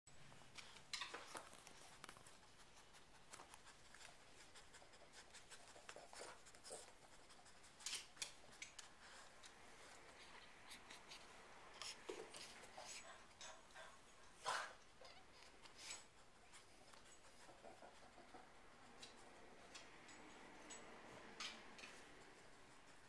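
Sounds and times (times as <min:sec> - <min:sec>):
small clicks and scratches: 0:00.3 - 0:13.7, 0:15.0 - 0:23.0.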